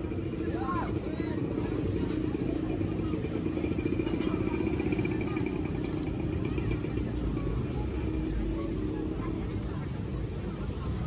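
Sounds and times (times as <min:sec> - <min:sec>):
faint crowd noise: 0:00.0 - 0:11.0.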